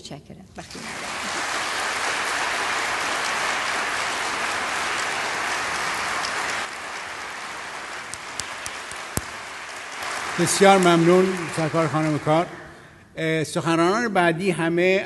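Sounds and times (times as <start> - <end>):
audience applauding: 0.7 - 12.9.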